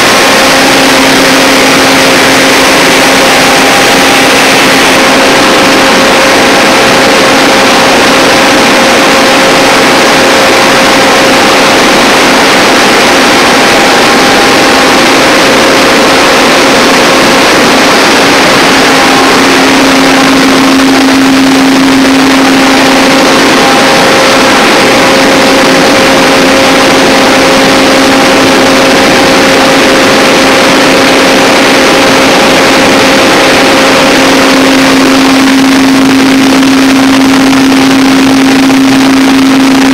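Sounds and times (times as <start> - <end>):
constant hum: 0.0 - 39.9
generator engine drone: 0.0 - 39.9.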